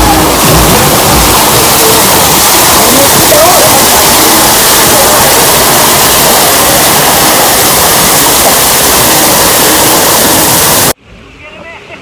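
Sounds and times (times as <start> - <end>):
water pouring down: 0.0 - 11.0.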